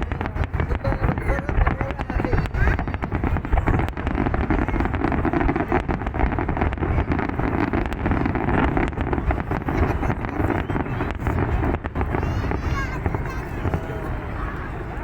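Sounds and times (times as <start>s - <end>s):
fireworks crackling and popping: 0.0s - 15.0s
wind buffeting microphone: 0.0s - 15.0s.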